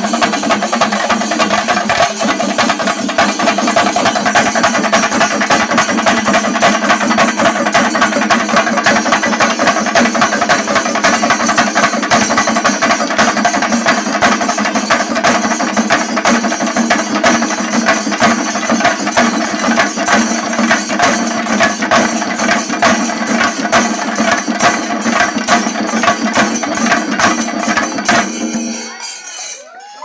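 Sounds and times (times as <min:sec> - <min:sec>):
drums beaten fast with sticks: 0:00.0 - 0:30.0.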